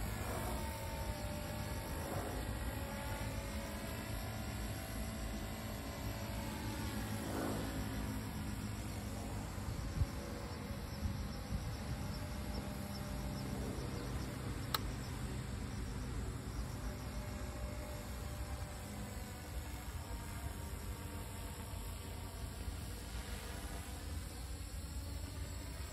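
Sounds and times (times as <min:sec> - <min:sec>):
rc helicopter buzzing: 0:00.0 - 0:25.9.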